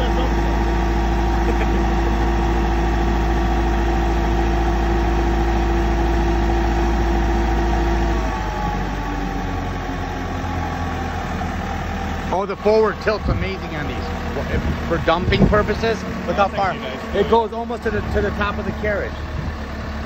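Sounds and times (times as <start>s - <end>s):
engine idling: 0.0s - 20.0s
forklift hydraulic whine: 0.0s - 20.0s.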